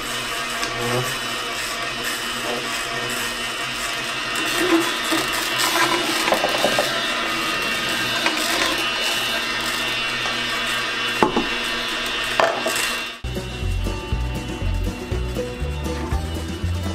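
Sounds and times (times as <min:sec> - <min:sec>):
juicer crunching and grinding: 0:00.0 - 0:16.1
juicer motor hum: 0:00.0 - 0:16.9.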